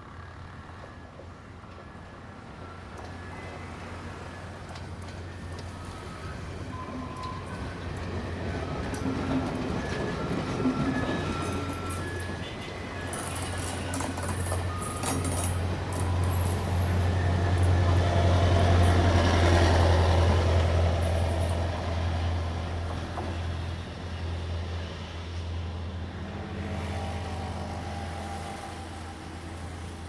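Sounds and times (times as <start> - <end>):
diesel train passing: 0.0 - 30.0.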